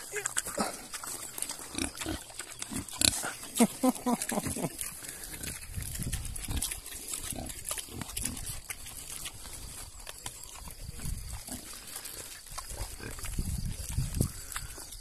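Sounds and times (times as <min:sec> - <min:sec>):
pigs grunting: 0:00.0 - 0:15.0.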